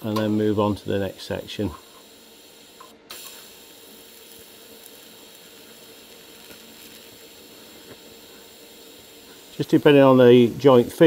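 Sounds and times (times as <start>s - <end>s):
welding arc hissing and humming: 0.0s - 11.0s.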